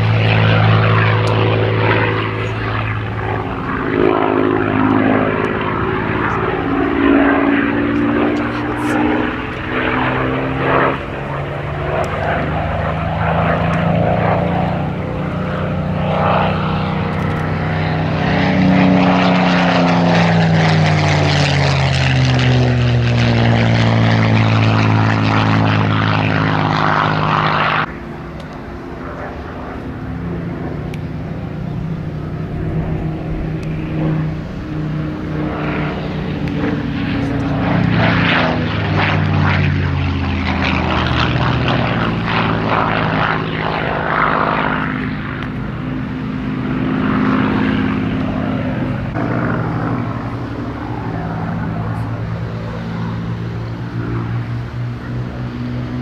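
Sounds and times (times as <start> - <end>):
aircraft engine passing: 0.0 - 56.0
distant aircraft drone: 0.0 - 56.0.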